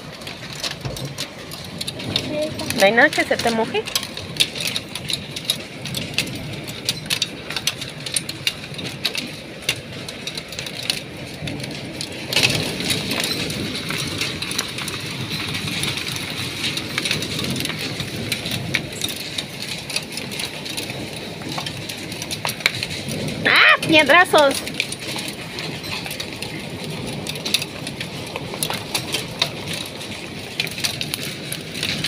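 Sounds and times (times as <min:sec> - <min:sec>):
hail ticking on a window: 0:00.0 - 0:32.0.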